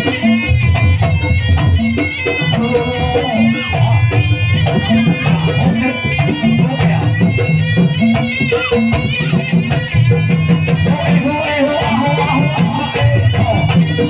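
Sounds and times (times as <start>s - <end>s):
drums beating: 0.0s - 14.0s.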